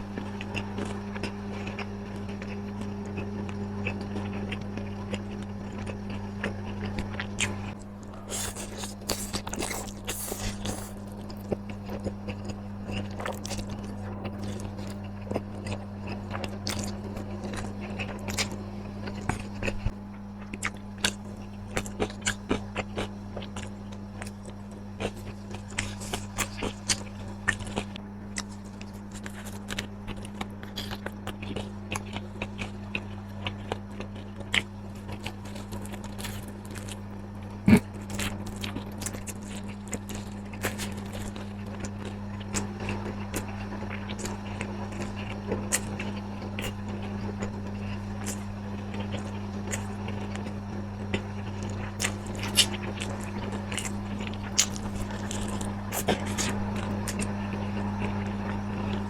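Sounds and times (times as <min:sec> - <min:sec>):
crunchy bites and chewing: 0:00.0 - 0:59.0
steady low hum: 0:00.0 - 0:59.0.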